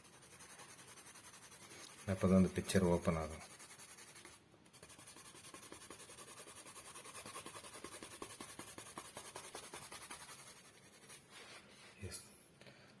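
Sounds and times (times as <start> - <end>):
pencil scratching on paper: 0.0 - 11.5.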